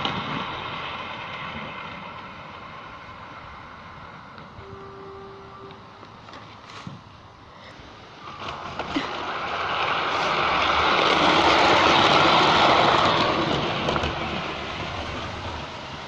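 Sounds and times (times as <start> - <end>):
model train whirring on rails: 0.0 - 16.0.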